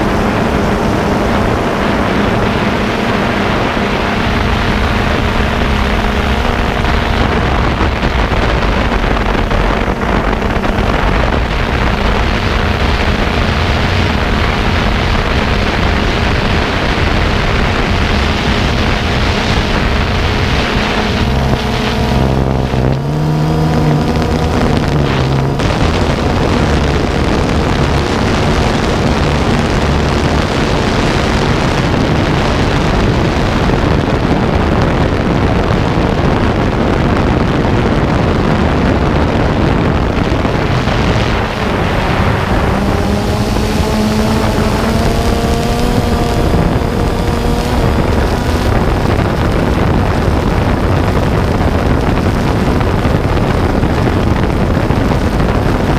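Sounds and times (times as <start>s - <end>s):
model aircraft motor and propeller: 0.0s - 35.6s, 38.4s - 55.9s
wind on microphone: 0.0s - 55.9s.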